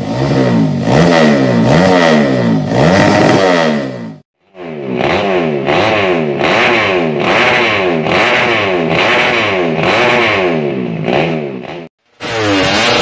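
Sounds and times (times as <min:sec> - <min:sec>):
motorcycle engine revving hard: 0:00.0 - 0:13.0.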